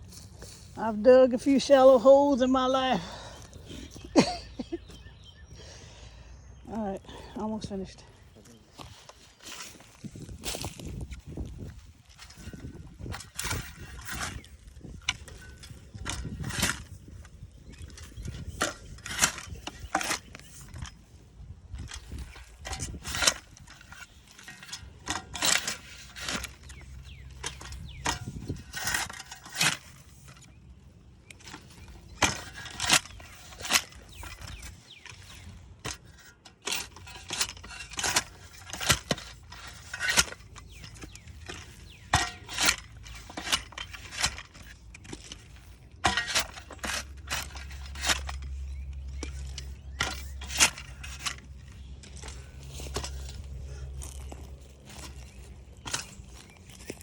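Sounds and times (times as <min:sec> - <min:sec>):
shovel digging into soil: 0:08.6 - 0:57.0.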